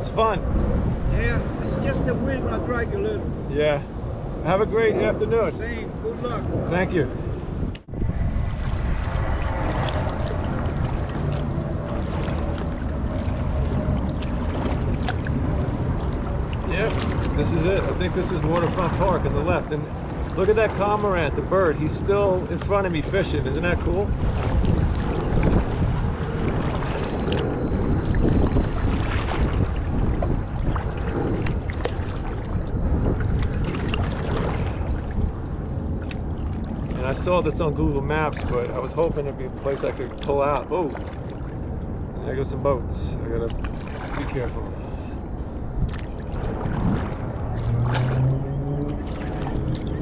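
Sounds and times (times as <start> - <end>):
wind on microphone: 0.0 - 50.0
paddle water splashes: 7.8 - 50.0.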